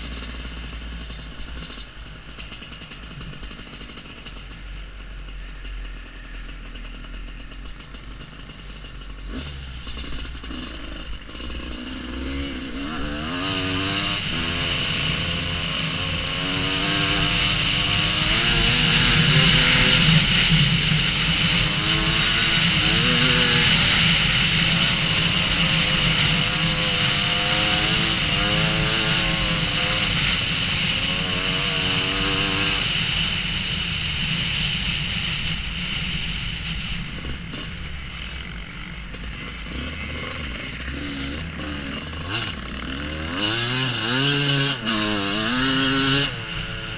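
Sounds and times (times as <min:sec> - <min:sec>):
two-stroke motorcycle engine revving: 0:00.0 - 0:46.9.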